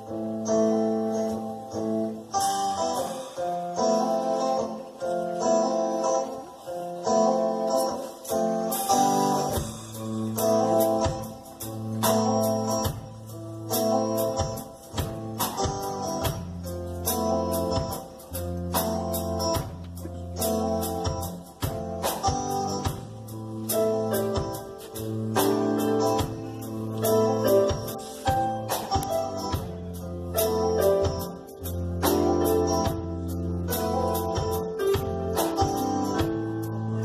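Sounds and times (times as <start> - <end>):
bass guitar: 0.0 - 37.0
drums: 0.0 - 37.0
electric guitar playing: 0.0 - 37.0.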